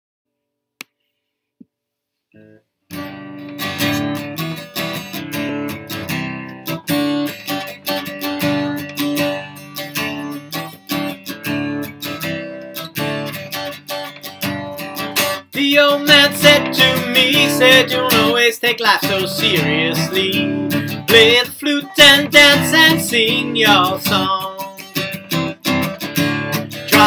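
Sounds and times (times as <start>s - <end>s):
acoustic guitar strummed chords: 2.4s - 27.0s.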